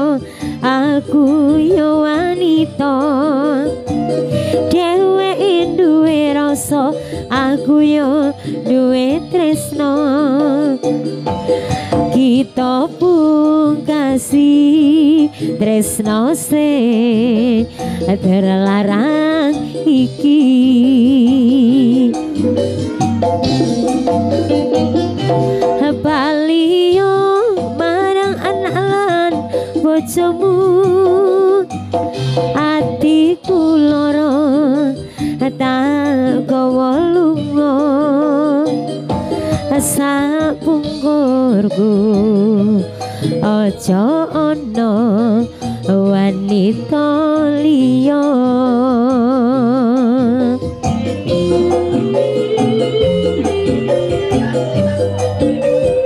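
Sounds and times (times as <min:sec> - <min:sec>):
wobbling melody line: 0:00.0 - 0:42.9, 0:43.5 - 0:56.0
drums: 0:00.0 - 0:56.0
low steady bass notes: 0:00.0 - 0:56.0.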